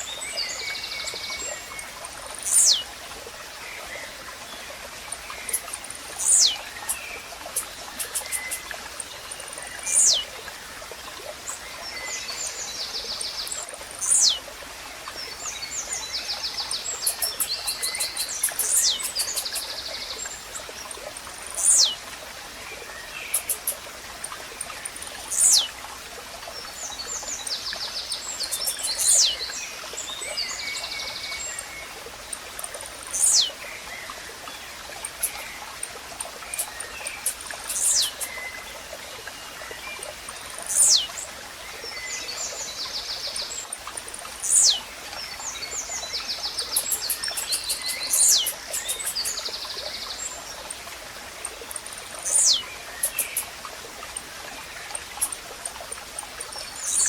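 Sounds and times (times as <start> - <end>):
small birds trilling and chirping: 0.0 - 57.0
stream trickling: 0.0 - 57.0.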